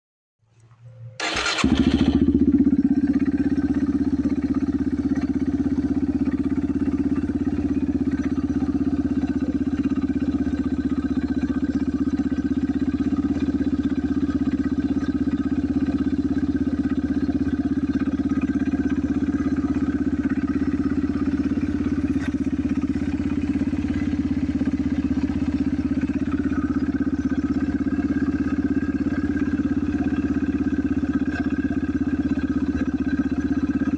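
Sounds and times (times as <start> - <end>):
dirt bike engine running: 1.2 - 33.9.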